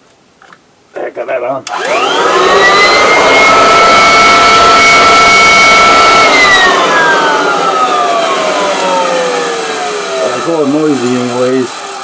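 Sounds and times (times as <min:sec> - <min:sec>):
vacuum cleaner motor whining: 0:01.7 - 0:12.0.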